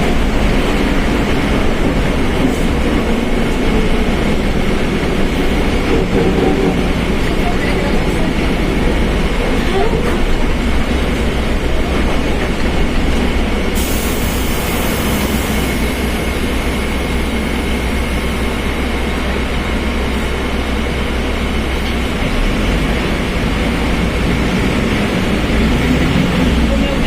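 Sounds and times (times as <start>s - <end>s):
bus driving: 0.0s - 27.0s.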